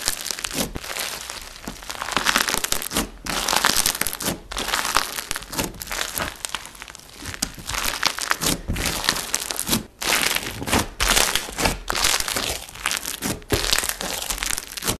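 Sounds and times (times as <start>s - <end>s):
slime crackling and popping: 0.0s - 14.9s.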